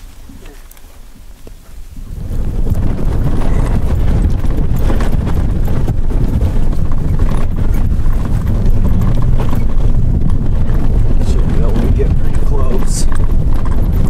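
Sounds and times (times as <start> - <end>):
engine and tyres rumbling: 0.0 - 14.0
rattling and knocking: 2.4 - 14.0.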